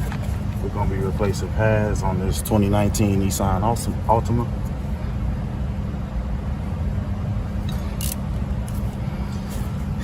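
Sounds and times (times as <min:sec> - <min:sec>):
low rumble with hum: 0:00.0 - 0:10.0.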